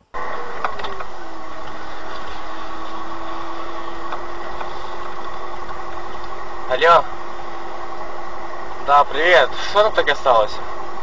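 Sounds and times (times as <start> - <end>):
car engine hum: 0.0 - 11.0
road noise: 0.0 - 11.0.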